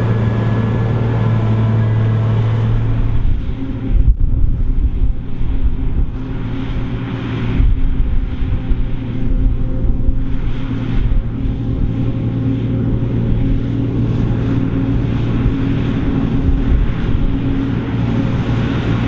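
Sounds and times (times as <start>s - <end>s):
forage harvester engine drone: 0.0s - 19.0s.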